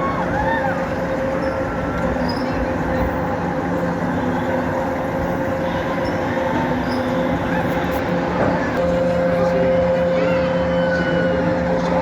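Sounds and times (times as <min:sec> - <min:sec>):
ride machinery hum and rumble: 0:00.0 - 0:12.0.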